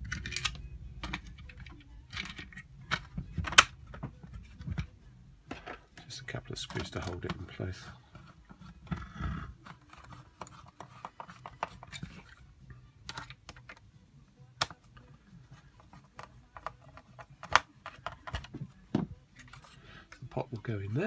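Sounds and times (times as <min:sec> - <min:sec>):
plastic parts clicking and tapping: 0:00.0 - 0:04.9, 0:05.5 - 0:12.4, 0:13.0 - 0:13.9, 0:15.8 - 0:20.7.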